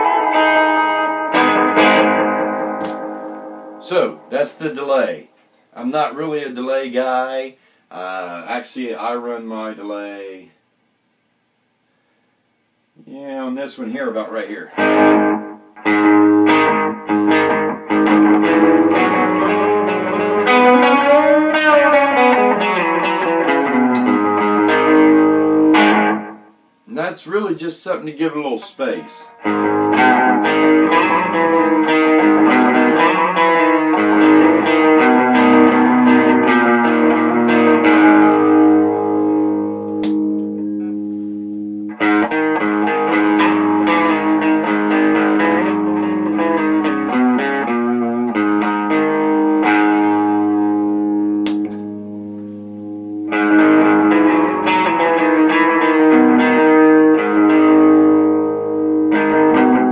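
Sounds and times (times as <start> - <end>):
electric guitar chords ringing: 0.0 - 5.4, 14.8 - 26.7, 28.6 - 59.9.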